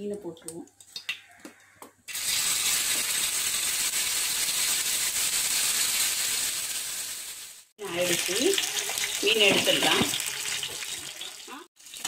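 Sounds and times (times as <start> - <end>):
fish sizzling in hot oil: 2.1 - 12.0.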